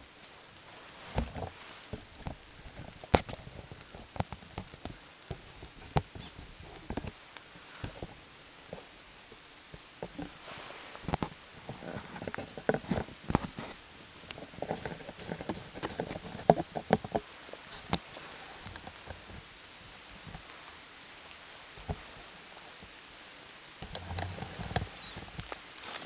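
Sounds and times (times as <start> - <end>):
rain pattering: 0.0 - 26.0
raindrops tapping nearby: 0.0 - 26.0.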